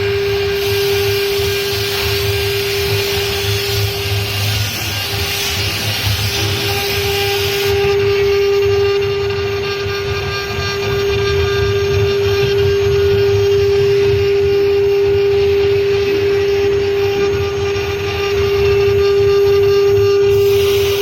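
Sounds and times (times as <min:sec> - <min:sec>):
wood router spindle whining: 0:00.0 - 0:21.0.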